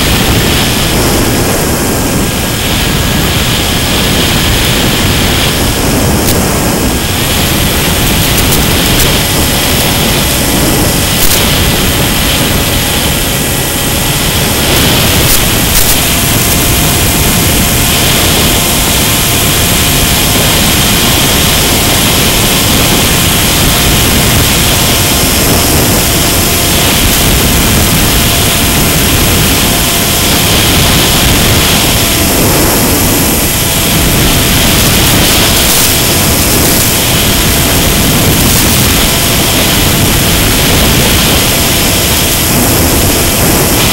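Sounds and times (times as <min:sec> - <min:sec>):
electric motor whine: 0:00.0 - 0:43.9
rush of air: 0:00.0 - 0:43.9.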